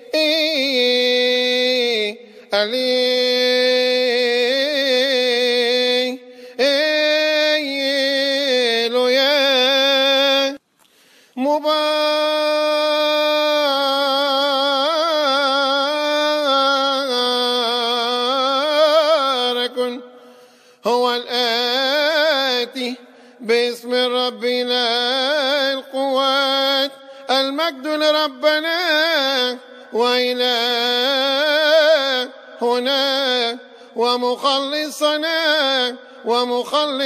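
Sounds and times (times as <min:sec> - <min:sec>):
man chanting: 0:00.0 - 0:10.6, 0:11.4 - 0:37.0.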